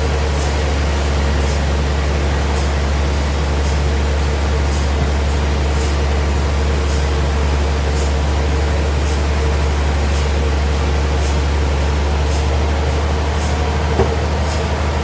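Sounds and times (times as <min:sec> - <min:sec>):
sawmill machinery drone: 0:00.0 - 0:15.0.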